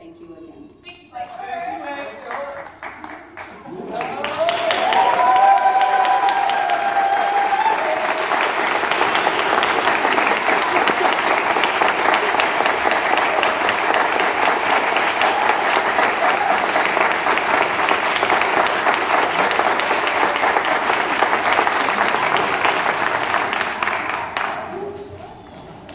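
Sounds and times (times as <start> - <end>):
crowd applauding: 1.3 - 25.9.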